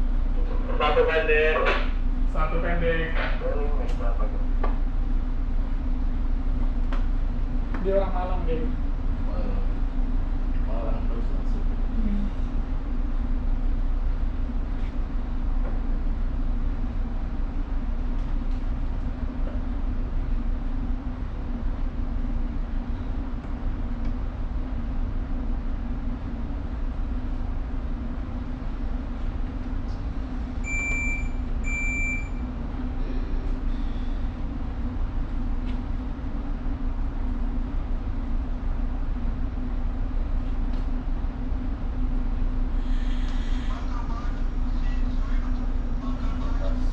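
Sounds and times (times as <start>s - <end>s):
machinery hum and rumble: 0.0s - 46.9s.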